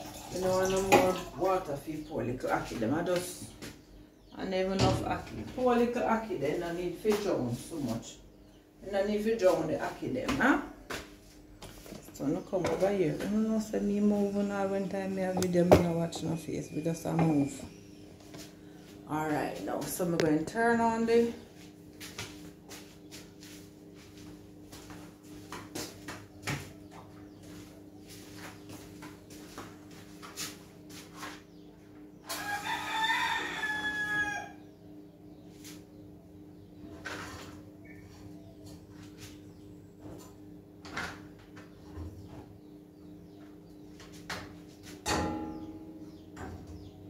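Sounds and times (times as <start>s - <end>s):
steady low hum: 0.0s - 32.9s, 34.4s - 47.0s.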